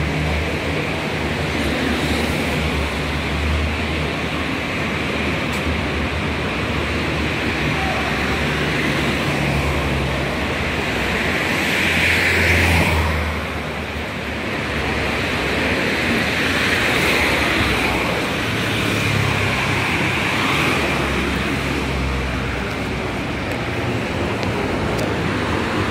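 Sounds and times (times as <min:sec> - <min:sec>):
cars passing: 0:00.0 - 0:25.9.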